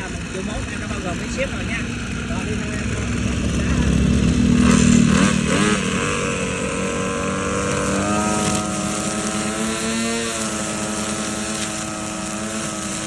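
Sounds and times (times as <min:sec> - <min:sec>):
brush cutter engine running: 0:00.0 - 0:13.0.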